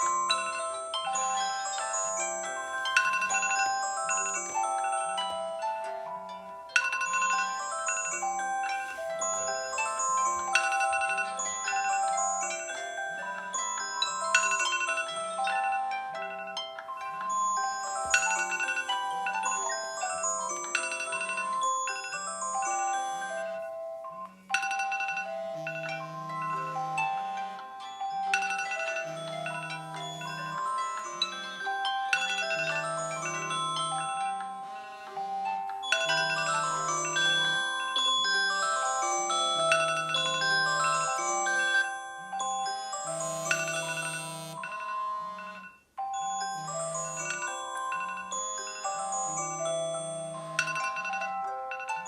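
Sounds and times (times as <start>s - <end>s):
smartphone alarm chiming melody: 0.0s - 51.7s.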